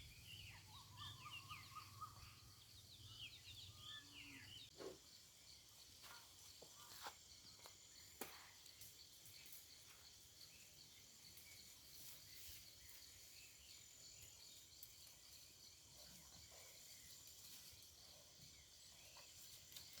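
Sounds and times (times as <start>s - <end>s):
insects chirring: 0.2s - 20.0s.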